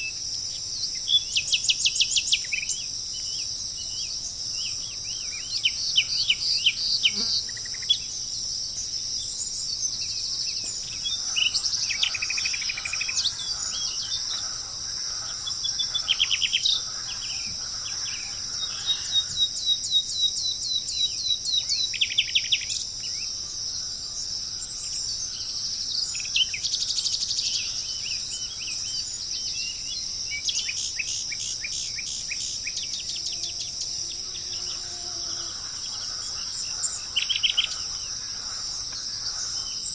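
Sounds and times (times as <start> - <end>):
birds chirping and trilling: 0.0 - 39.9
high-pitched insect chorus: 0.0 - 39.9.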